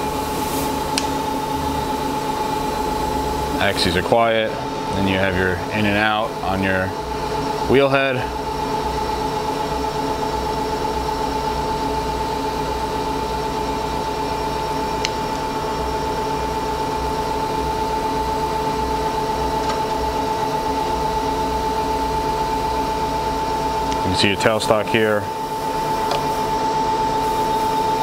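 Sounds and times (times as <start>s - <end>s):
grinding machine hum: 0.0s - 28.0s.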